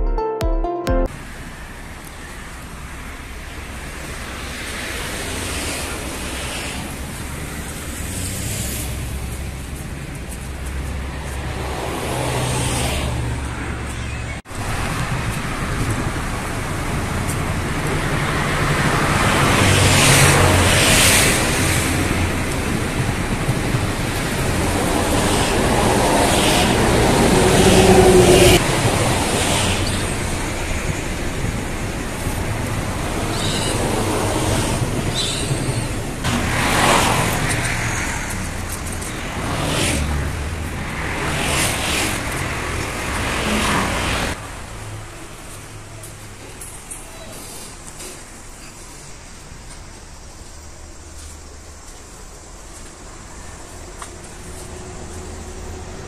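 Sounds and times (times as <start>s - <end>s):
vehicles passing: 1.1s - 56.0s.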